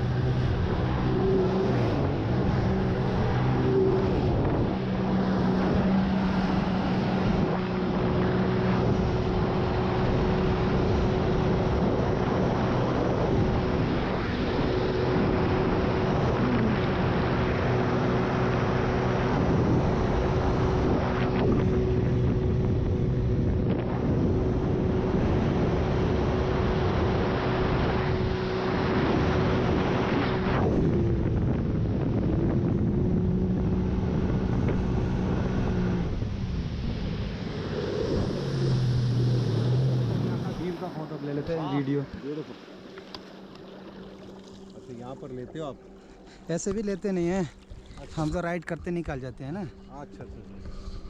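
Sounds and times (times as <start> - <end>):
constant rushing noise: 0.0 - 51.0
jet ski engine running: 0.0 - 51.0.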